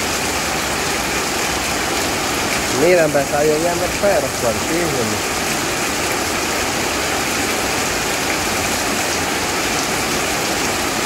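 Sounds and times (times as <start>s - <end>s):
heavy rain on concrete: 0.0s - 11.0s.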